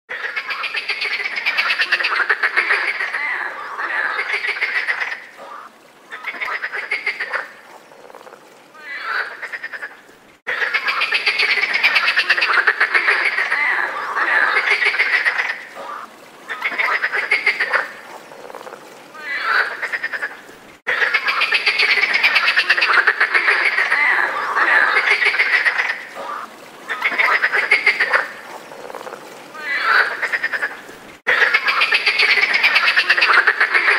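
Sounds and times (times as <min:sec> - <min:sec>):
chorus of frogs croaking: 0:00.1 - 0:33.9.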